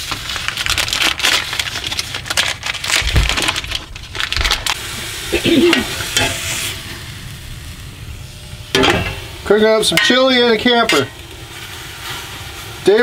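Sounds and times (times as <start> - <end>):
meat sizzling in a pot: 0.0 - 2.7, 3.4 - 13.0.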